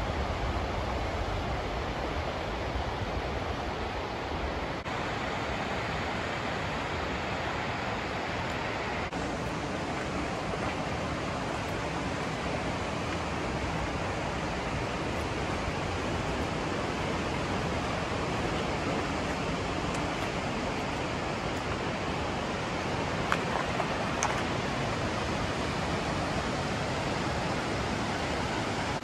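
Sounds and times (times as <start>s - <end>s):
waterfall roar: 0.0s - 29.0s.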